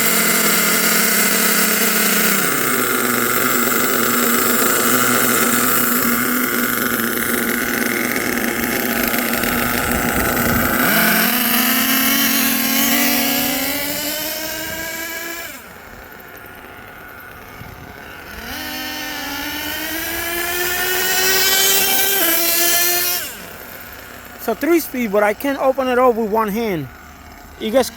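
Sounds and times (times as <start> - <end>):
model truck nitro engines revving: 0.0 - 27.9.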